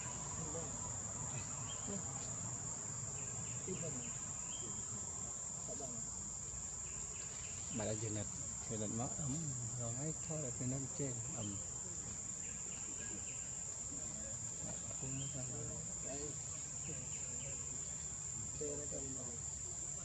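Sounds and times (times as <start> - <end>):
insects droning: 0.0 - 20.0
voices talking: 0.0 - 20.0.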